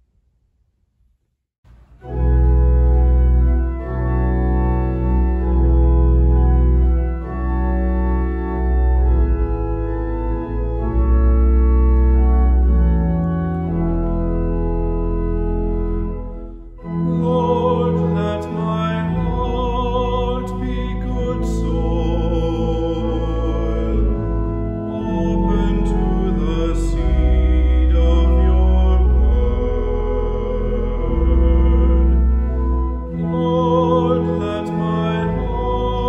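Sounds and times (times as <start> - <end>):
church organ playing chords: 1.7 - 36.0.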